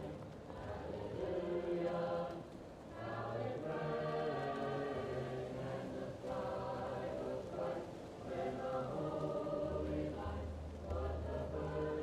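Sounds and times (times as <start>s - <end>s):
muffled choir singing: 0.0s - 12.0s.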